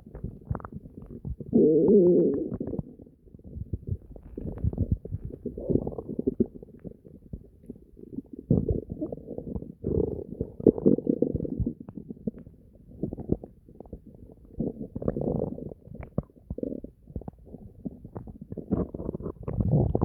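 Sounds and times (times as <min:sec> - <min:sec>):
stomach gurgling and growling: 0:00.0 - 0:20.0.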